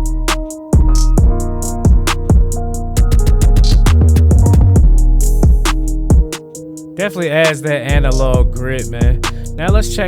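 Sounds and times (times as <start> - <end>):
hip-hop beat: 0.0 - 10.0.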